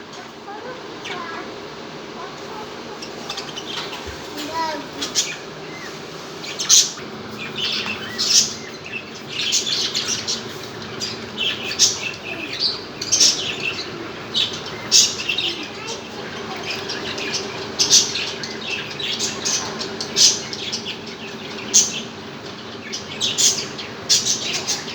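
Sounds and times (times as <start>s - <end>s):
budgerigars chirping and chattering: 0.1s - 24.9s.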